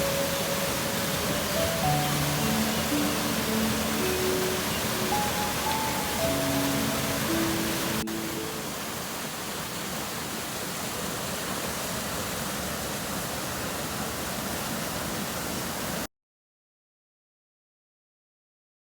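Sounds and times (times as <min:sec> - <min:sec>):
stream water rushing: 0:00.0 - 0:16.1.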